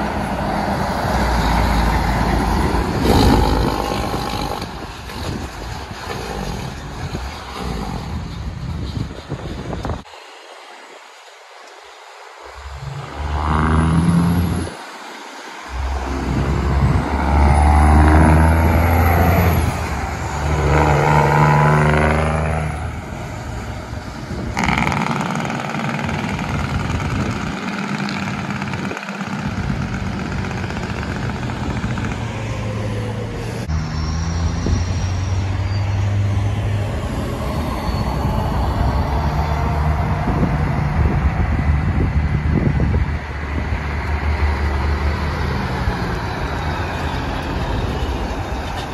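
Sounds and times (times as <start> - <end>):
truck diesel engine revving: 0.0 - 8.3, 12.6 - 14.8, 15.7 - 48.9
drone of truck engines: 0.0 - 48.9
passing traffic: 0.0 - 48.9.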